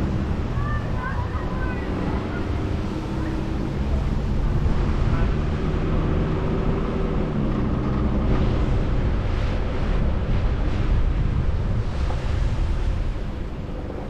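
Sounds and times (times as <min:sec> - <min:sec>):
road and engine noise in cab: 0:00.0 - 0:14.0.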